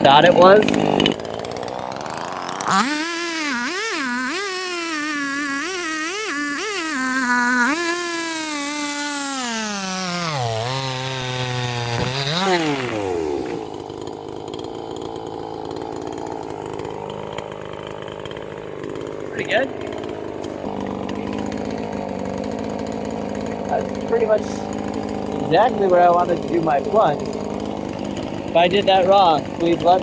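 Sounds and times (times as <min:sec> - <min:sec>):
chainsaw cutting wood: 0:00.0 - 0:30.0.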